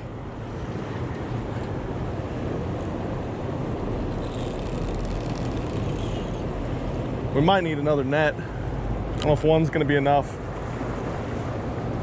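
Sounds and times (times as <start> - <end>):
fast water rushing: 0.0 - 12.0.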